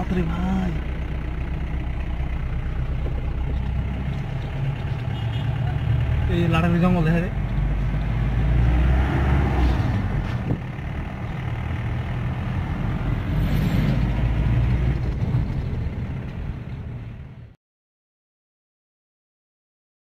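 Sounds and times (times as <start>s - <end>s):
vehicle engine and road noise: 0.0s - 17.6s.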